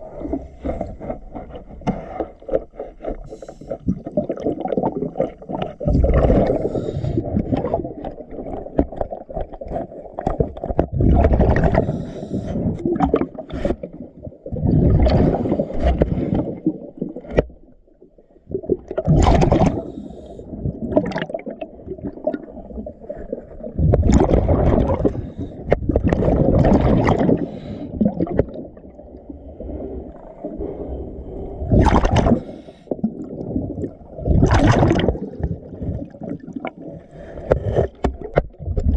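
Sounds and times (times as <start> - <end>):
diver's bubbles gurgling underwater: 0.0 - 38.9
low water rumble: 0.0 - 38.9.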